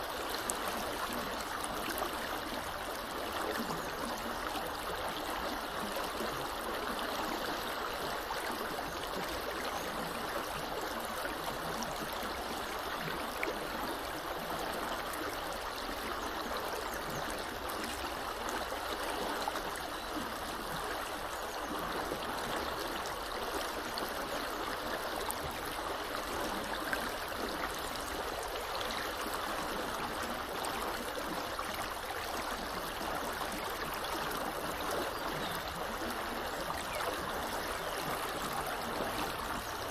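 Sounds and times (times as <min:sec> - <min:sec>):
water rushing over stream bed: 0:00.0 - 0:39.9.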